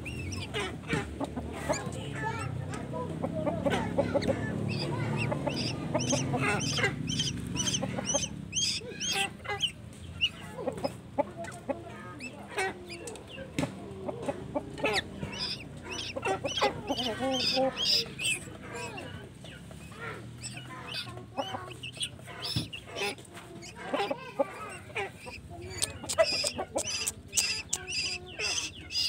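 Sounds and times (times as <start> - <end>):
young birds chirping: 0.0 - 29.0.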